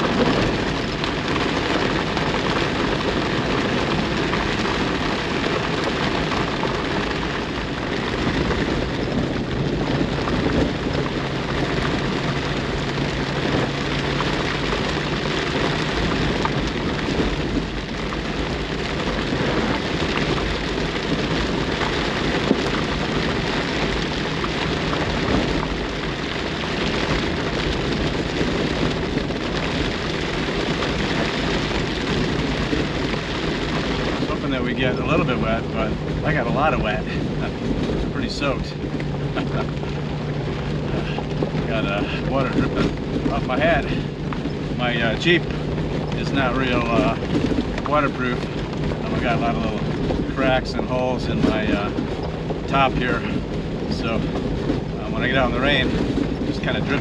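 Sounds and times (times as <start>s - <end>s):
car engine running low: 0.0s - 57.0s
heavy rain drumming on car roof: 0.0s - 57.0s.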